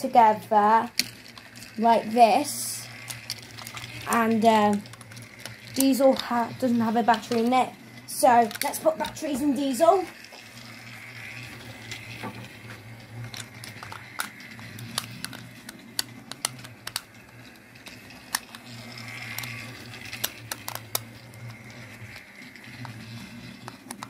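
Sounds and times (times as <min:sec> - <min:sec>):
toy train motor hum: 0:00.0 - 0:24.0.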